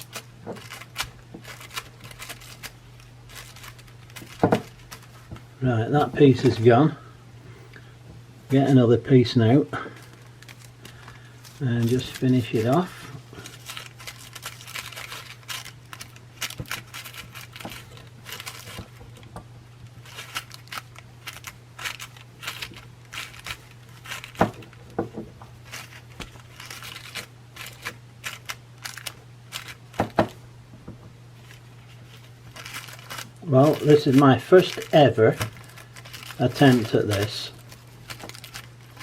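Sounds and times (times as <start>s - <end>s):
small crackles: 0.0s - 5.5s, 9.8s - 30.4s, 31.4s - 39.0s
paper crinkling and rustling: 0.0s - 6.7s, 9.8s - 30.4s, 31.4s - 39.0s
steady low hum: 0.0s - 39.0s.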